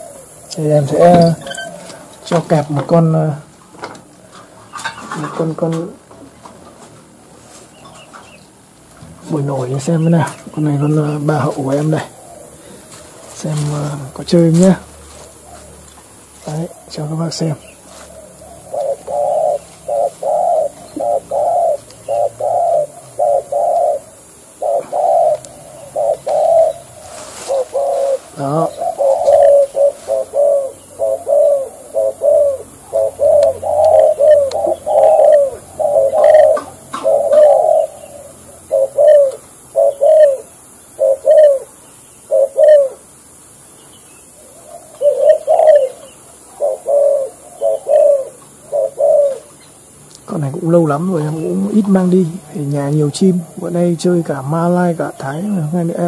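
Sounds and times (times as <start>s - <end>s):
doves cooing: 0.0s - 43.6s, 44.2s - 56.0s.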